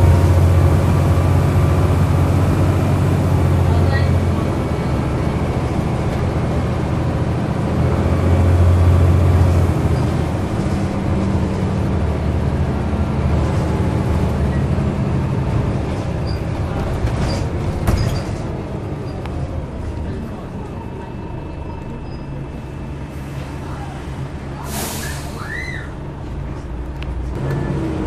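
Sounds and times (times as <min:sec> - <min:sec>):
bus diesel engine drone: 0:00.0 - 0:28.0.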